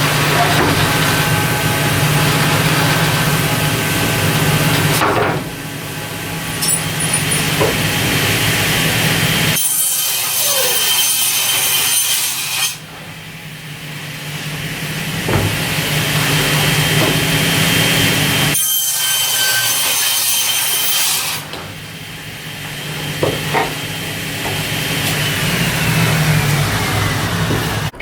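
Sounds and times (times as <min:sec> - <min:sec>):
power saw cutting wood: 0:00.0 - 0:12.9, 0:14.4 - 0:21.7, 0:22.3 - 0:28.0.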